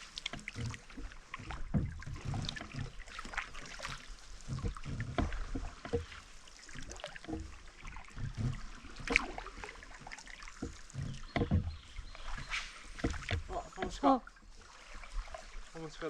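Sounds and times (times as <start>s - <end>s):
paddle strokes in water: 0.0s - 16.0s
soft thumps and splashes: 0.0s - 16.0s.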